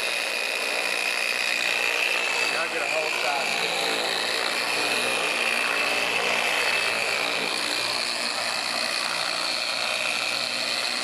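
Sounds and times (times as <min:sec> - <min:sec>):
electric car polisher running: 0:00.0 - 0:11.0.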